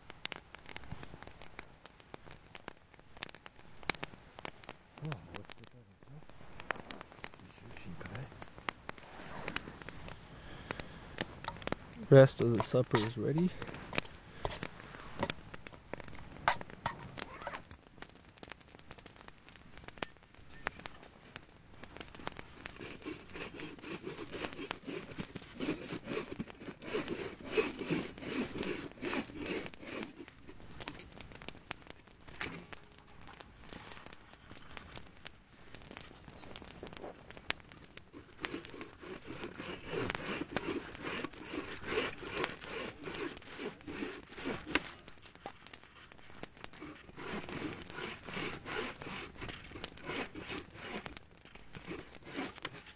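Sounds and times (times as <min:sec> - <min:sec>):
campfire crackling and popping: 0:00.0 - 0:52.9
rushing flames: 0:00.0 - 0:52.9.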